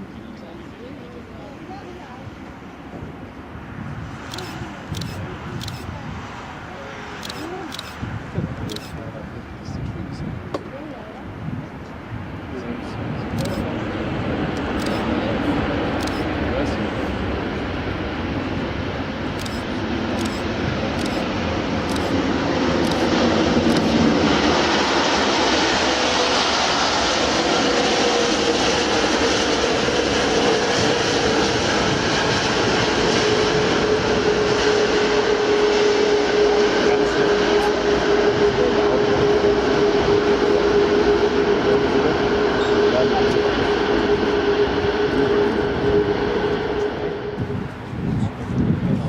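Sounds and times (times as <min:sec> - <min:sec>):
jet engine roar with whine: 0:00.0 - 0:49.0.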